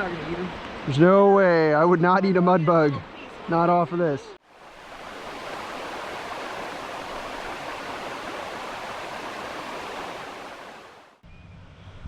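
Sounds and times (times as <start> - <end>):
creek flowing: 0.0 - 11.2.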